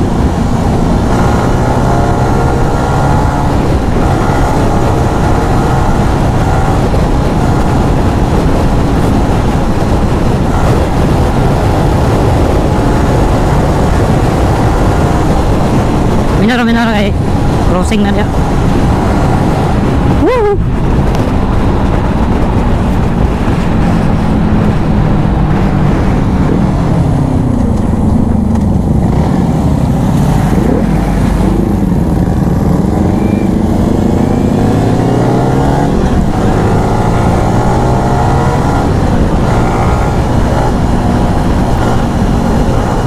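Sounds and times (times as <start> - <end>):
motorcycle engine running: 0.0 - 43.0
wind rush on microphone: 0.0 - 43.0.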